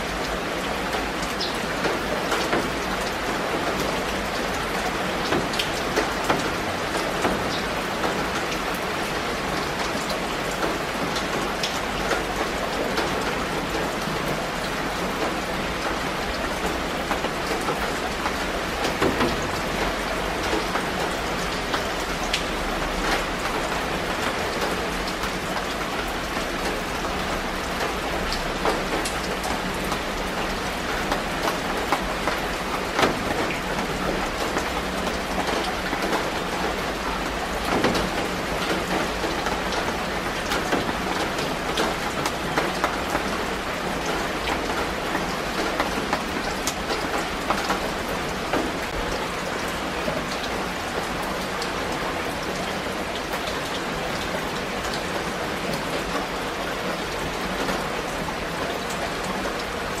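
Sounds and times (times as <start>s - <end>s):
rain pattering on leaves: 0.0s - 60.0s.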